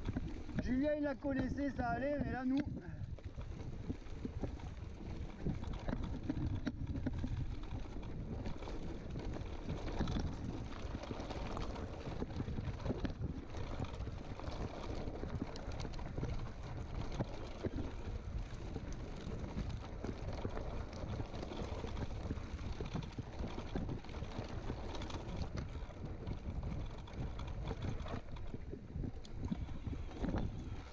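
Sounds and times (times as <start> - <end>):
bike rattling: 0.0 - 30.9
bike tyres rolling: 0.0 - 30.9
wind rushing over microphone: 0.0 - 30.9.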